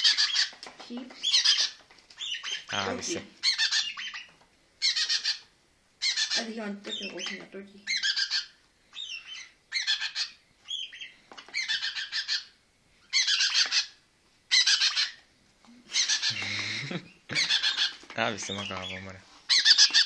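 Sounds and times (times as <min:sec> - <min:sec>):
parrot calling: 0:00.0 - 0:00.6, 0:01.2 - 0:15.2, 0:15.8 - 0:20.0.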